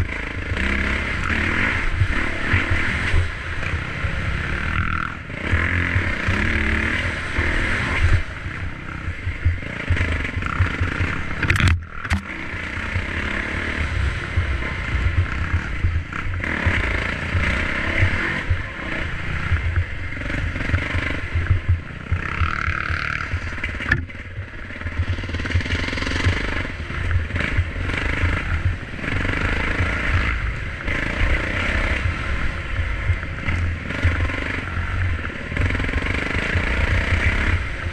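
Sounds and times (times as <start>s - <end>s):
dirt bike engine running: 0.0s - 37.9s
wind rumble on microphone: 7.0s - 37.9s.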